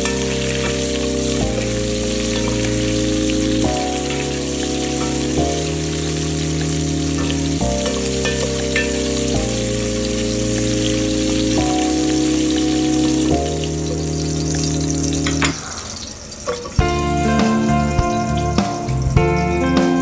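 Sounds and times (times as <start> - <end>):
background music of held chords: 0.0 - 15.7, 16.8 - 20.0
peppers sizzling in hot oil: 0.0 - 20.0.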